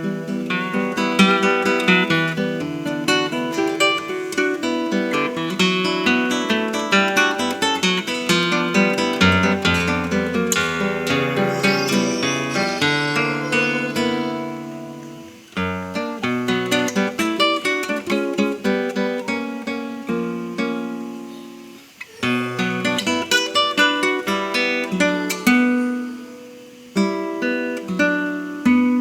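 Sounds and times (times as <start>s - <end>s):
solo classical guitar: 0.0s - 29.0s.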